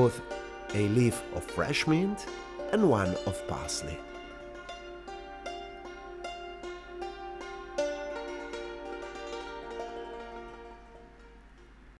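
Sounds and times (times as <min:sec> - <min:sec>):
plucked string music: 0:00.0 - 0:12.0.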